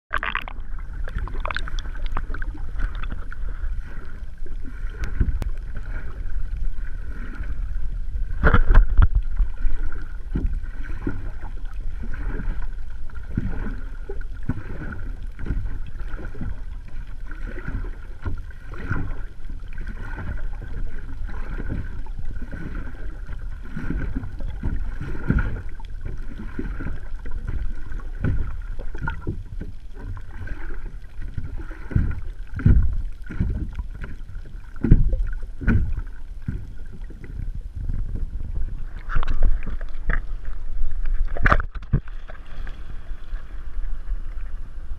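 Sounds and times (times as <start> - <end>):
underwater clicks and swishes: 0.1 - 44.9
underwater rumble of moving water: 0.1 - 44.9.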